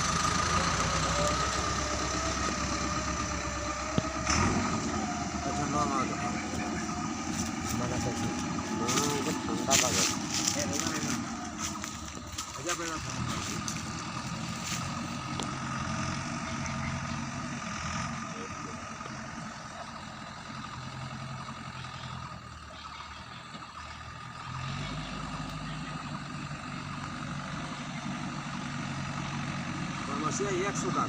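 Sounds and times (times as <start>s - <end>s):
backhoe loader diesel engine: 0.0s - 31.0s.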